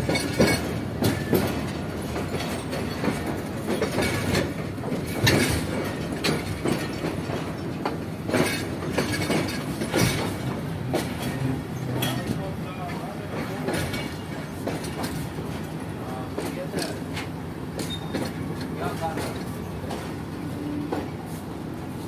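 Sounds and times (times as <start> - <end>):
wheels clacking over rail joints: 0.0 - 21.2
train carriage rumble: 0.0 - 22.0.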